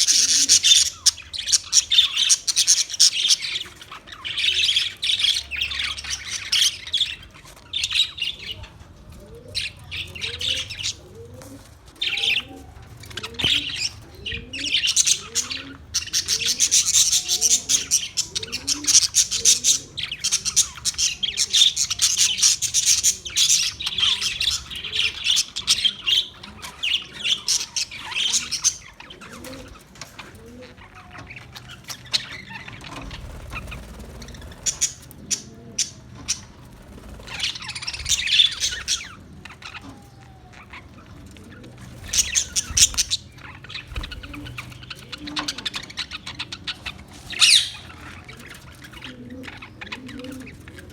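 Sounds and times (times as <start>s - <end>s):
parrots chattering and squawking: 0.0s - 50.9s.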